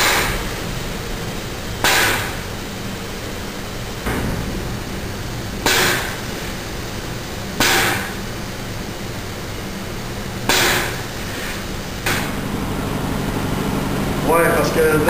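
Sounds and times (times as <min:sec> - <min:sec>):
pump humming: 0:02.4 - 0:15.0.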